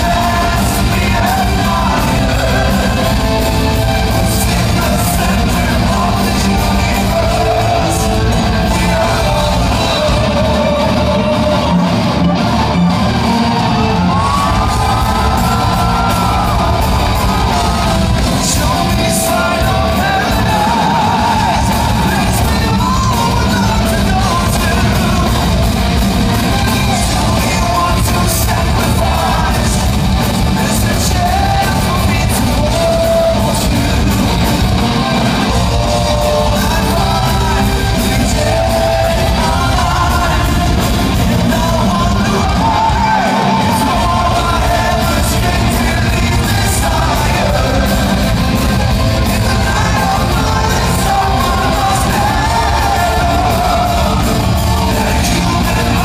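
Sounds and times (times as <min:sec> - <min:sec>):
distorted guitars: 0:00.0 - 0:56.0
drums: 0:00.0 - 0:56.0
person singing: 0:00.0 - 0:56.0
shouted vocals: 0:00.0 - 0:56.0.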